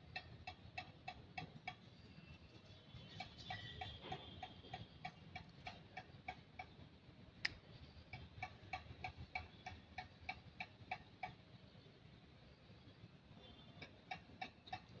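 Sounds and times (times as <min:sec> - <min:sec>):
faint regular ticking: 0:00.0 - 0:11.6, 0:13.4 - 0:15.0.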